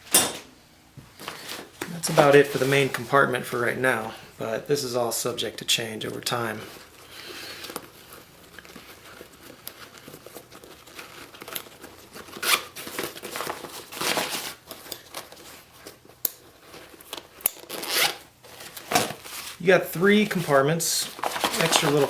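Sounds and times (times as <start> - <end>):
fabric bag rustling: 1.1 - 3.3, 6.2 - 22.0.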